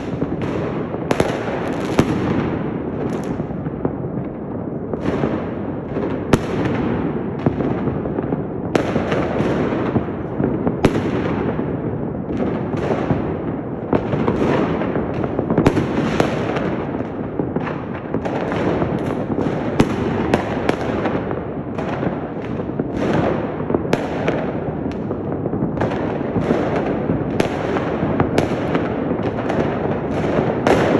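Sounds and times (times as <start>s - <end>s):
distant fireworks crackling: 0.0s - 30.9s
firecracker bangs: 0.0s - 30.9s.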